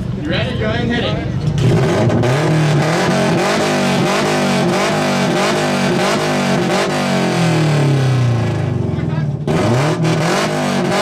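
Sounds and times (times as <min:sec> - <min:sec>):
car engine revving hard: 0:01.5 - 0:11.0.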